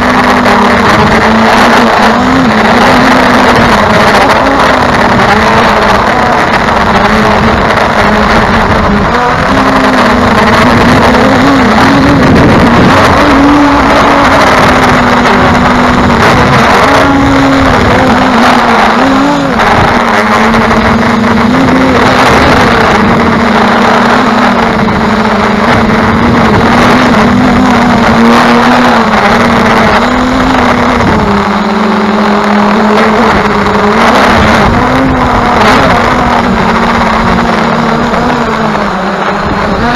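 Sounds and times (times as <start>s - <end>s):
drone motors humming: 0.0s - 39.9s
wind rushing over microphone: 0.0s - 39.9s.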